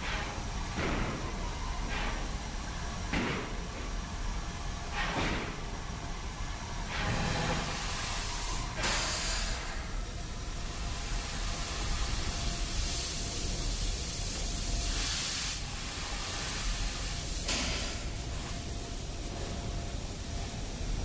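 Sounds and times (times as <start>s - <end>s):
low rumble of workshop: 0.0s - 21.0s
steam hissing: 0.0s - 21.0s.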